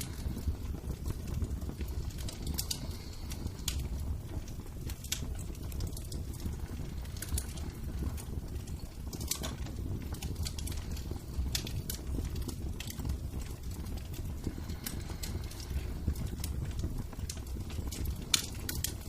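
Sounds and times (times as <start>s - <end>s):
low fire rumble: 0.0s - 19.0s
wood fire pops: 0.0s - 19.0s.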